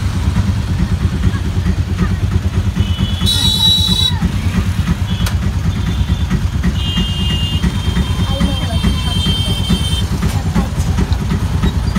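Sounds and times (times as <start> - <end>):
auto-rickshaw engine chugging: 0.0 - 11.9.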